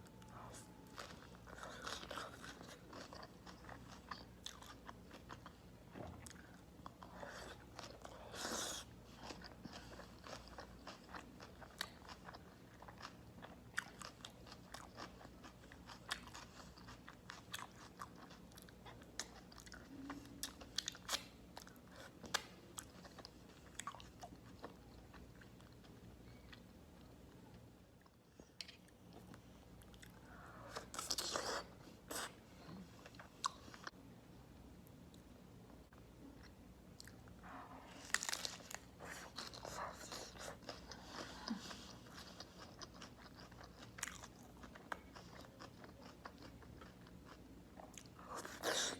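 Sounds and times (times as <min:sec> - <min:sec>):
crunching and chewing food: 0:00.0 - 0:34.0, 0:35.9 - 0:48.9.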